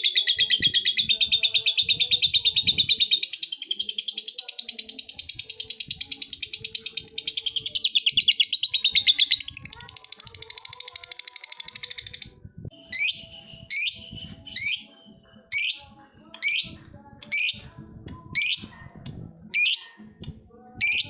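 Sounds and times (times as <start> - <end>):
lovebird chattering trill: 0.0 - 14.9, 15.5 - 17.7, 18.4 - 18.7, 19.6 - 20.0.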